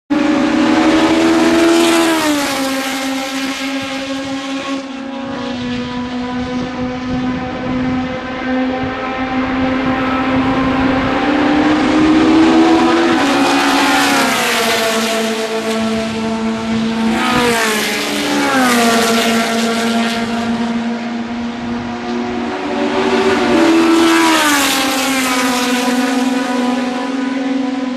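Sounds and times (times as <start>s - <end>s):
racing car engine at high revs: 0.1s - 27.9s.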